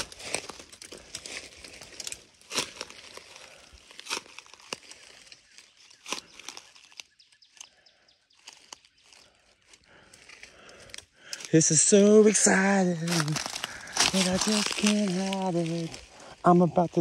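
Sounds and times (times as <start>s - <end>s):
footsteps through dry leaves: 0.0s - 7.7s, 8.3s - 17.0s.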